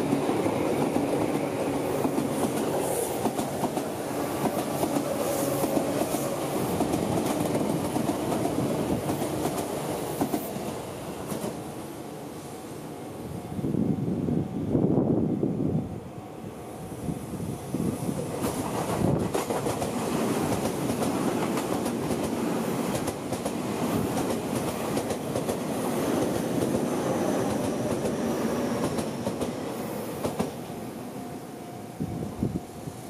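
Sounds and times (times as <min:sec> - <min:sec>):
train wheels rumbling on rails: 0:00.0 - 0:11.8, 0:16.9 - 0:33.0.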